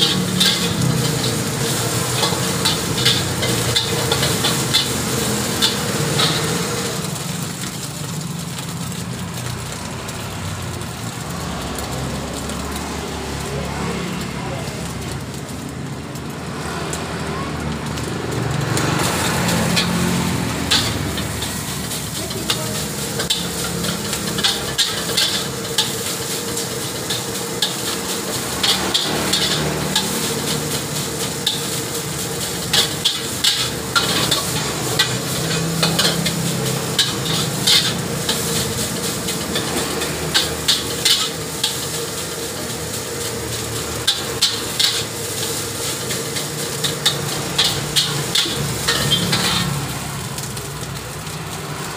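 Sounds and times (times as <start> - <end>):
metal spatula scraping wok: 0.0 - 10.2, 18.0 - 50.9
food sizzling in a wok: 0.0 - 51.9.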